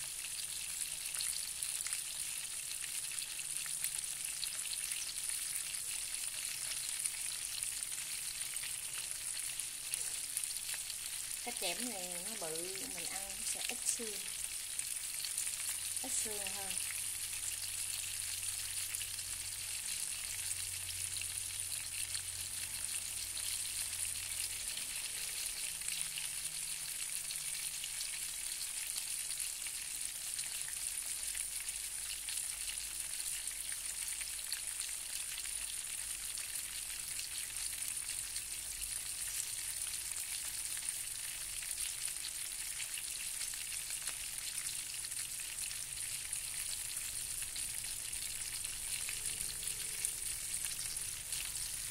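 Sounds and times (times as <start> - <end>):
fish sizzling in hot oil: 0.0 - 51.9.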